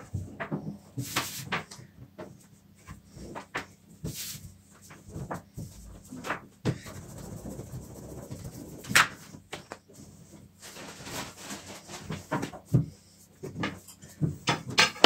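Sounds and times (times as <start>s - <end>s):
rolling pin rolling dough: 0.0s - 15.0s.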